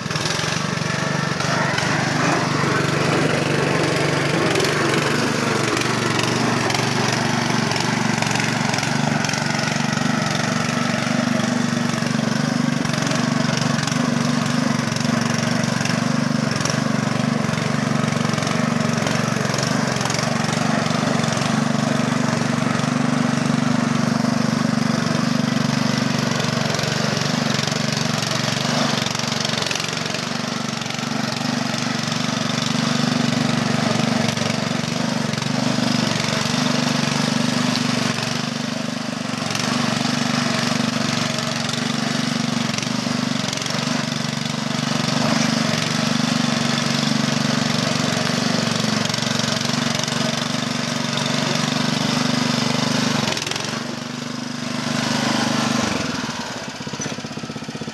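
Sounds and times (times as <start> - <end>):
small engine running: 0.0 - 57.9.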